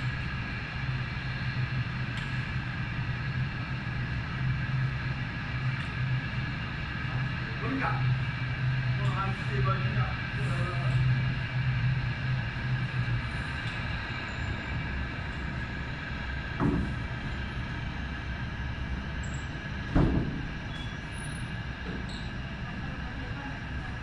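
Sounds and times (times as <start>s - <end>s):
aircraft engines whining: 0.0s - 24.0s.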